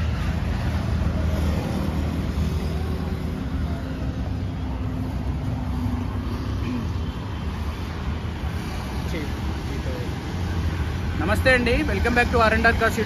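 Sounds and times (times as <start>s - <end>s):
motorcycles passing: 0.0s - 13.0s
road traffic rumble: 0.0s - 13.0s.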